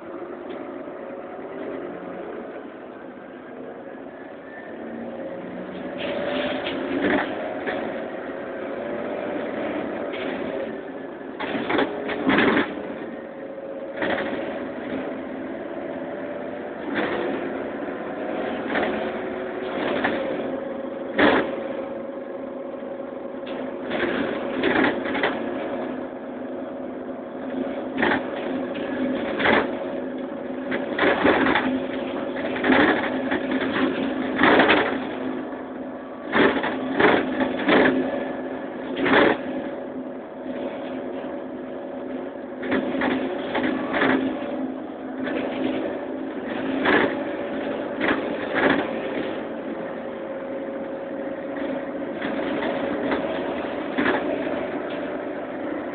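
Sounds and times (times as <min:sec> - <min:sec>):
bus engine hum: 0:00.0 - 0:55.9
rattles and knocks of bus body: 0:05.6 - 0:55.9.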